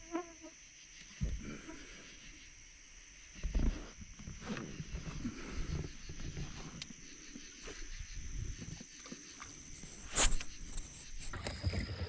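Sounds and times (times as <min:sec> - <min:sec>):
night insects chorus: 0:00.0 - 0:12.0.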